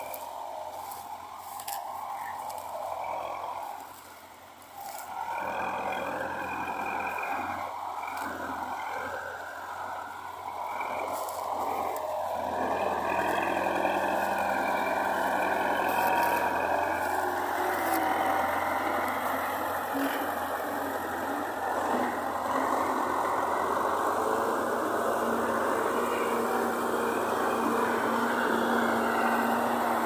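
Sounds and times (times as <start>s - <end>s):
farm machinery engine running: 0.0s - 30.0s.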